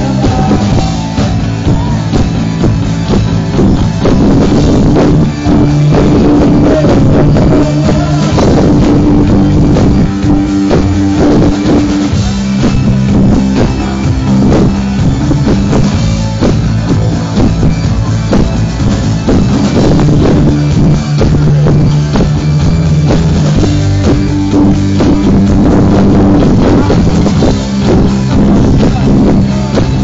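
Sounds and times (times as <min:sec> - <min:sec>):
drum kit beat: 0:00.0 - 0:30.0
electric bass guitar: 0:00.0 - 0:30.0
electric guitar: 0:00.0 - 0:30.0.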